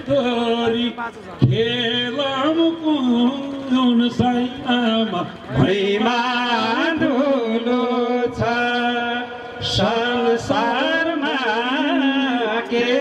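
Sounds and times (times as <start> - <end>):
man singing folk song: 0.0 - 13.0.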